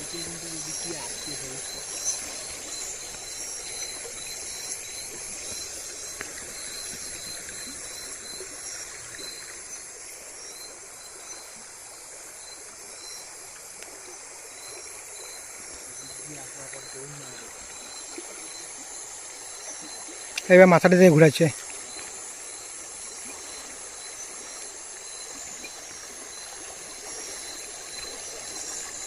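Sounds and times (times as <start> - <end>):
crickets chirping: 0.0 - 29.0
low hiss: 0.0 - 29.0
shrill insect trill: 0.0 - 29.0.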